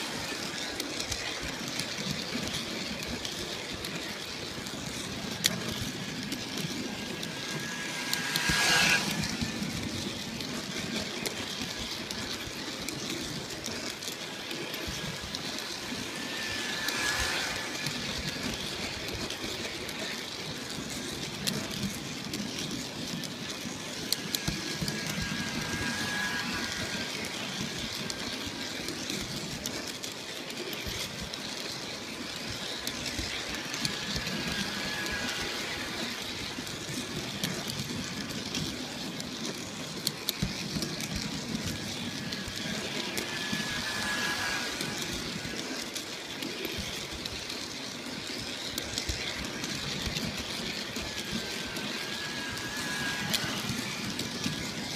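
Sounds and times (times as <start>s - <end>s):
model train motor and wheels: 0.0s - 54.9s.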